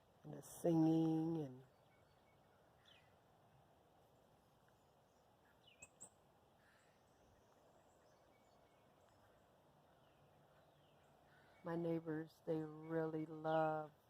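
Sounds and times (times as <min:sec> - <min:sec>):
faint bird chirps: 0:00.3 - 0:14.0.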